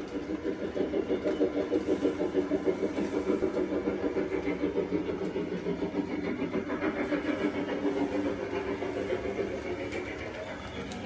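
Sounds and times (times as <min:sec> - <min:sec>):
toy train motor hum: 0:00.0 - 0:11.0.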